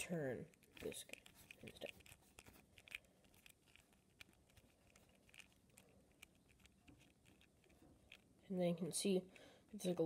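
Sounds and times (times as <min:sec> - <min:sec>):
vinyl figure clicking and rubbing: 0:00.0 - 0:08.4.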